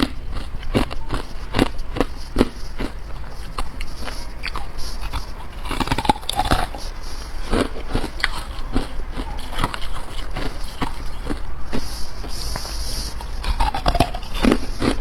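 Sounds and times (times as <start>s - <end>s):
crunching ice with teeth: 0.0s - 15.0s.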